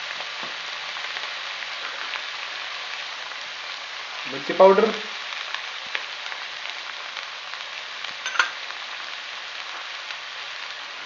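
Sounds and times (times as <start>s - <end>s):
cabbage sizzling in oil: 0.0s - 11.0s.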